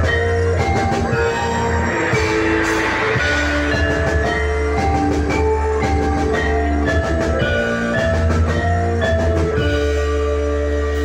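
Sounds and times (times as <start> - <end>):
frame drum strokes: 0.0 - 9.8
instrumental ensemble music: 0.0 - 11.0
metallophone melody: 0.0 - 11.0.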